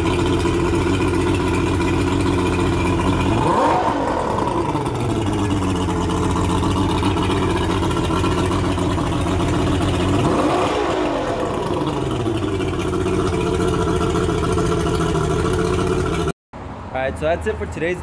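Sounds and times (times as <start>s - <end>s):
outboard motor idling: 0.0s - 16.4s.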